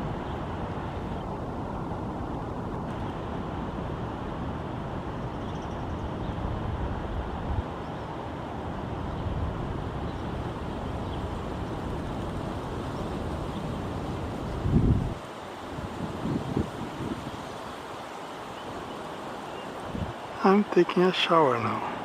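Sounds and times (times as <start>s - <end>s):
wind gusts on microphone: 0.0s - 22.0s.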